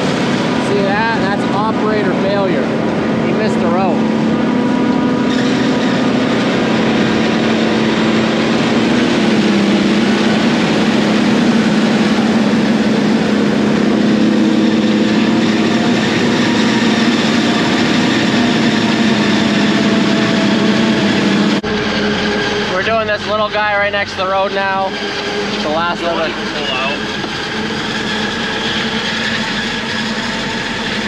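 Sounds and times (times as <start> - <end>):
harvester engine drone: 0.0 - 31.0.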